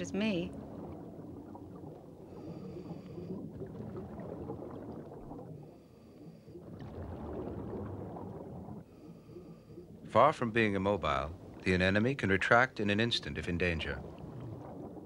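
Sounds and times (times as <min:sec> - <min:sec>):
underwater bubbles gurgling: 0:00.0 - 0:15.0.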